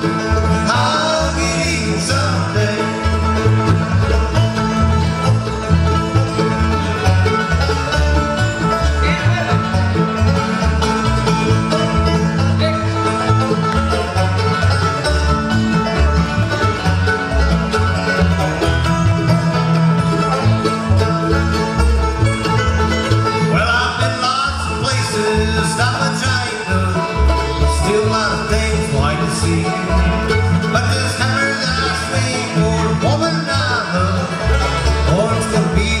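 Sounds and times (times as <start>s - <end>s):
acoustic guitar picking: 0.0s - 36.0s
banjo: 0.0s - 36.0s
mandolin: 0.0s - 36.0s
plucked upright bass: 0.0s - 36.0s.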